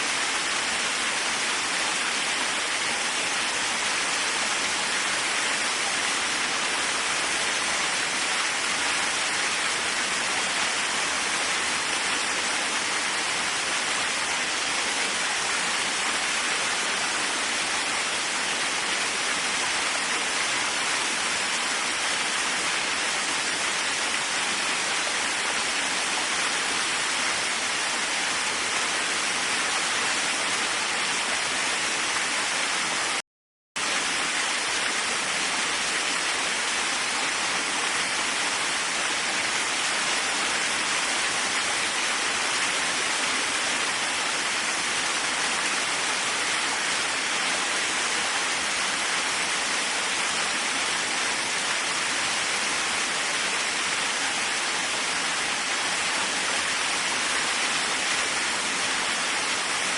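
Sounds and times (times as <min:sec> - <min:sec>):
waterfall rushing: 0:00.0 - 0:33.2, 0:33.8 - 0:59.9.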